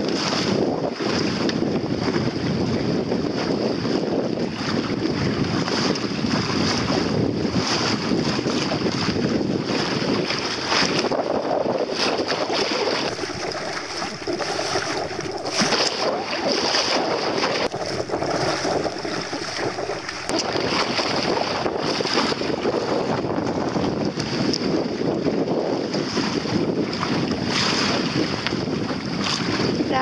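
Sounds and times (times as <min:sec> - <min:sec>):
water splashing along hull: 0:00.0 - 0:30.0
wind rushing over microphone: 0:00.0 - 0:30.0.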